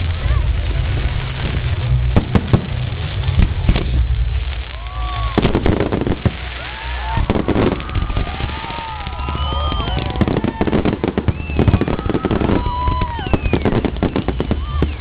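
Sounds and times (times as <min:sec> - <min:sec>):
firecrackers popping: 0:00.0 - 0:15.0
low rumble: 0:00.0 - 0:15.0
whistling fireworks: 0:00.0 - 0:15.0.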